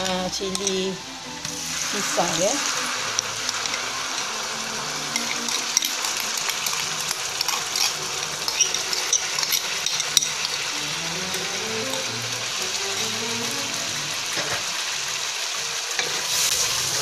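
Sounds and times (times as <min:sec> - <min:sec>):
hot oil sizzling in a wok: 0:00.0 - 0:17.0.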